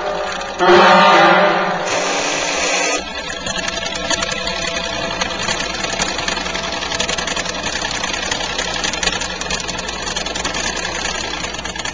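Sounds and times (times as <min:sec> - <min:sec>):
dense mechanical clatter: 0:00.0 - 0:11.9
low machinery hum: 0:00.0 - 0:11.9.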